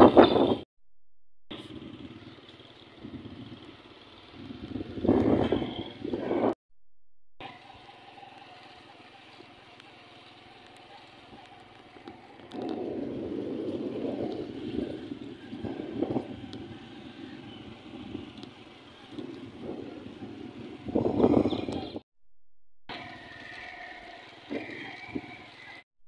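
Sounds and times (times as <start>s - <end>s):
motorcycle engine humming: 1.5s - 6.6s, 7.4s - 22.0s, 22.9s - 25.8s.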